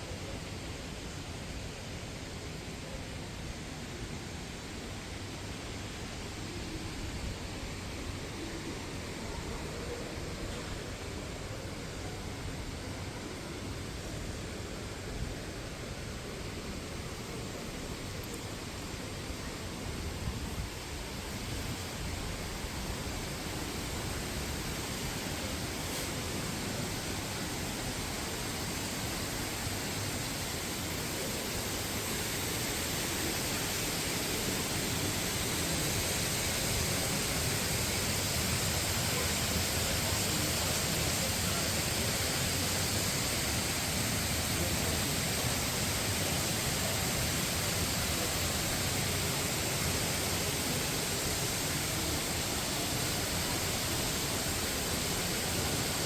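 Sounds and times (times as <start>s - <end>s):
rush of falling water: 0.0s - 56.0s.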